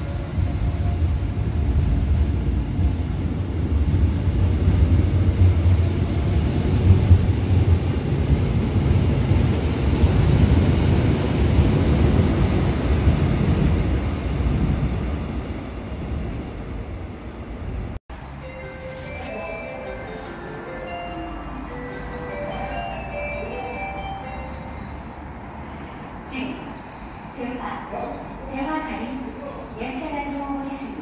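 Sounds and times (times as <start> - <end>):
electric train rumbling past: 0.0 - 31.0.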